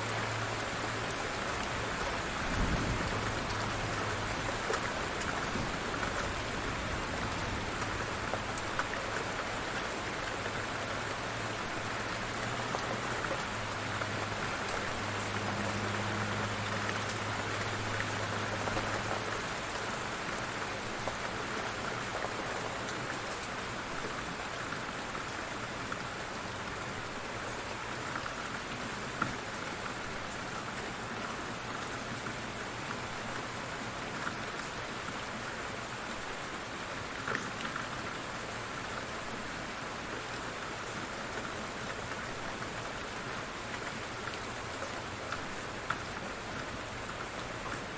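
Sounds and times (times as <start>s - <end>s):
light rain falling: 0.0s - 47.9s.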